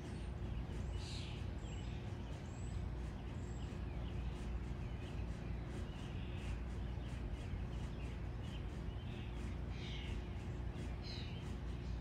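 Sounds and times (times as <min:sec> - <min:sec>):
bird chirps and calls: 0:00.0 - 0:12.0
faint hum: 0:00.0 - 0:12.0
low outdoor rumble: 0:00.0 - 0:12.0.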